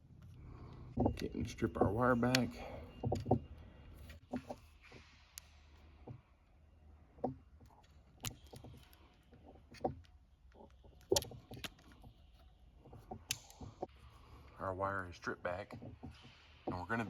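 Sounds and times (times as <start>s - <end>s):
wire strippers clicking: 0.0s - 6.2s, 7.1s - 17.0s.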